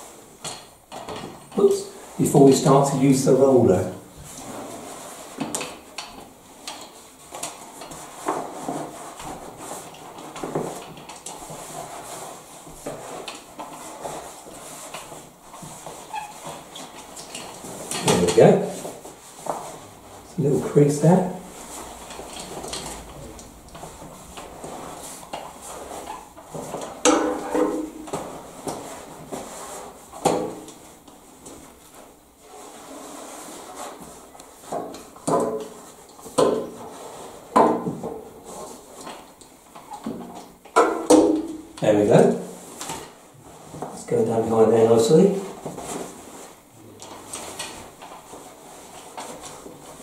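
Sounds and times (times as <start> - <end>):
wallpaper rustling: 0.0 - 50.0.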